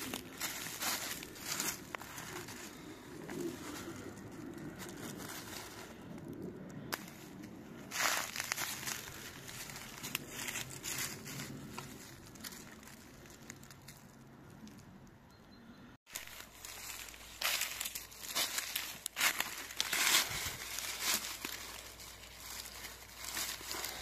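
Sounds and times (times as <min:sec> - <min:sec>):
dry leaves rustling and crackling: 0:00.0 - 0:14.8, 0:16.1 - 0:24.0.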